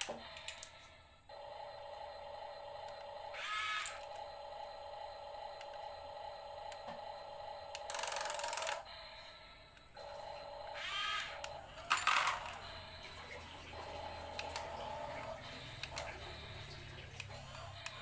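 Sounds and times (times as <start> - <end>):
toy electric motor whining: 0.0 - 18.0.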